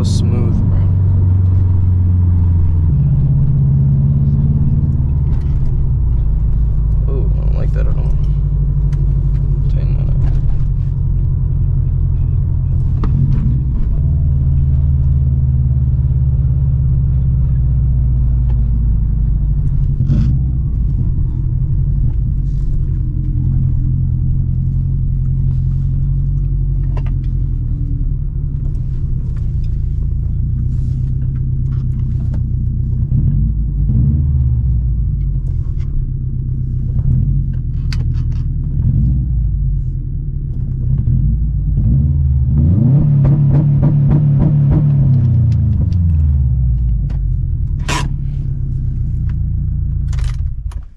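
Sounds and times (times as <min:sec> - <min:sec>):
car engine rumble while cruising: 0:00.0 - 0:50.9.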